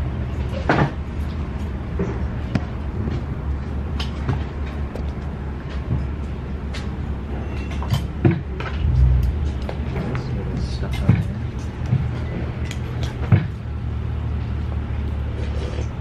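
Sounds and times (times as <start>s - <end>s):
restaurant background rumble: 0.0s - 16.0s.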